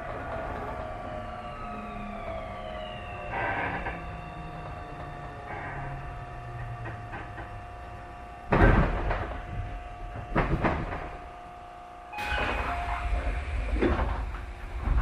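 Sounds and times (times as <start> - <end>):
steady electrical hum: 1.2 - 15.0.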